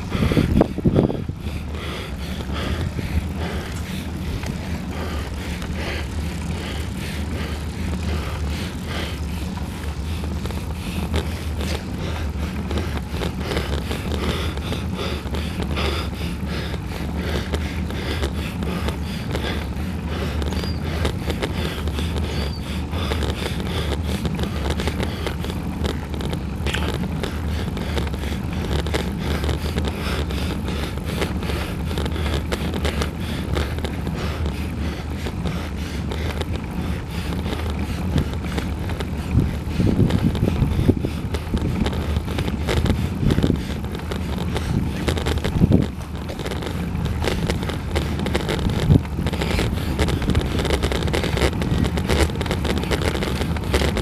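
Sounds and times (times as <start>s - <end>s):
tyre and road noise: 0.0s - 54.0s
wind buffets and bumps: 0.0s - 54.0s
wind rushing over microphone: 0.0s - 54.0s.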